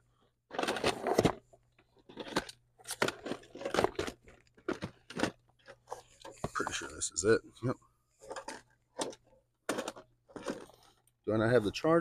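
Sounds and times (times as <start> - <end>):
rustling and crinkling: 0.5 - 7.2, 8.2 - 12.0.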